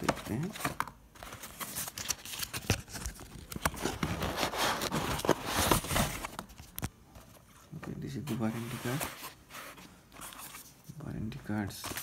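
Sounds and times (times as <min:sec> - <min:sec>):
cardboard and paper rustling: 0:00.0 - 0:10.8, 0:11.5 - 0:12.0.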